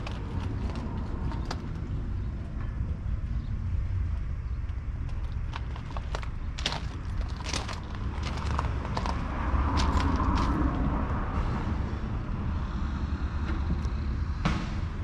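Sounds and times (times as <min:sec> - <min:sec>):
tractor diesel engine running: 0:00.0 - 0:02.5, 0:04.4 - 0:14.1.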